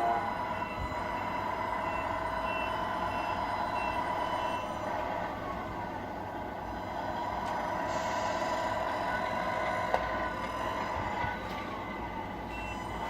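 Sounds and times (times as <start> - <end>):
radio-controlled truck whining: 0.0 - 13.0.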